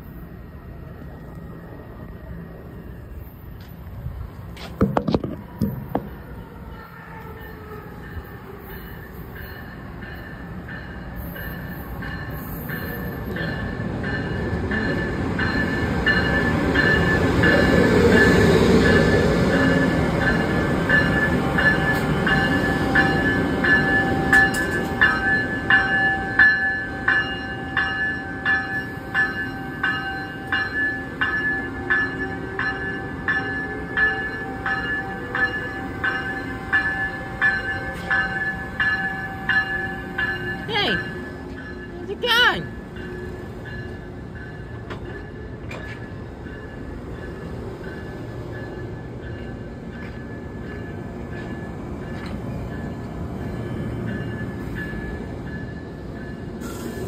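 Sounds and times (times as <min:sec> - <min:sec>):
high train whine: 0:00.0 - 0:57.0
train rumble: 0:00.0 - 0:57.0.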